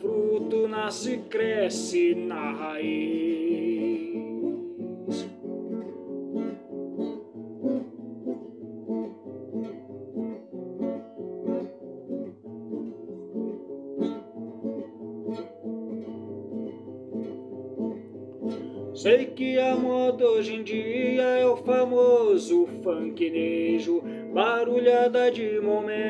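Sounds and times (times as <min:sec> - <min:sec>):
acoustic guitar picking a melody: 0:00.0 - 0:26.0.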